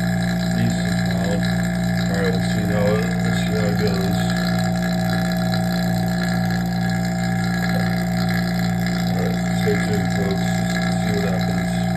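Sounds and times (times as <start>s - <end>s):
vacuum pump humming: 0.0s - 11.9s.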